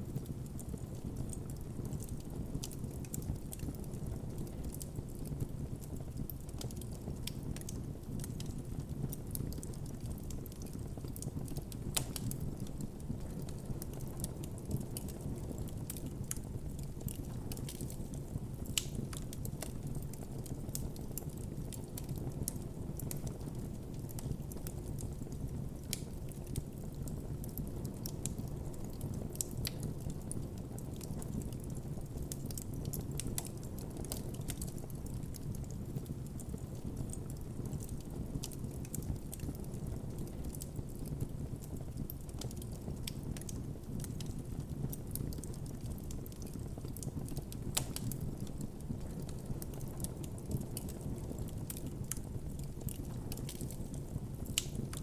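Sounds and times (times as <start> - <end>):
burning wood crackling and popping: 0.0 - 55.0
campfire flames rumbling: 0.0 - 55.0.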